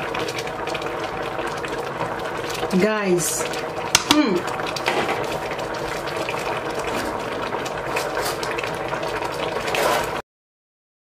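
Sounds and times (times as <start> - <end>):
soup boiling and bubbling: 0.0 - 10.2.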